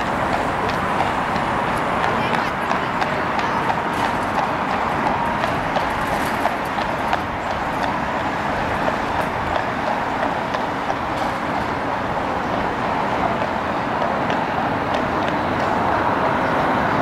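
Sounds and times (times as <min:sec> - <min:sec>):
vehicle rushing noise: 0:00.0 - 0:17.0.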